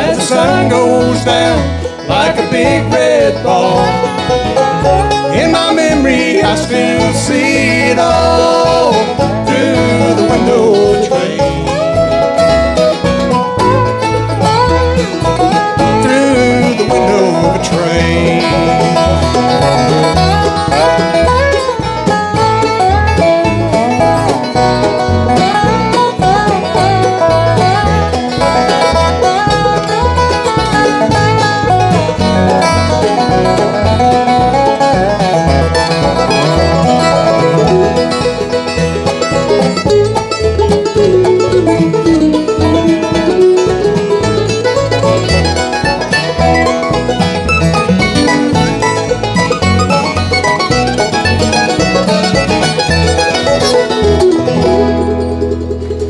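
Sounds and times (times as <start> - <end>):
bluegrass band playing: 0.0 - 56.0.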